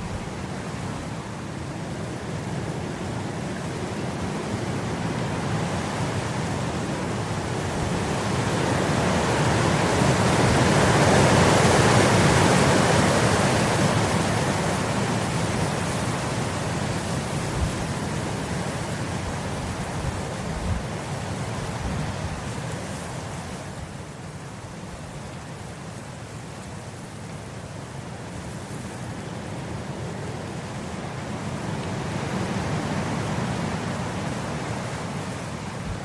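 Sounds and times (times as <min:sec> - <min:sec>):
wind blowing across grass: 0:00.0 - 0:36.0.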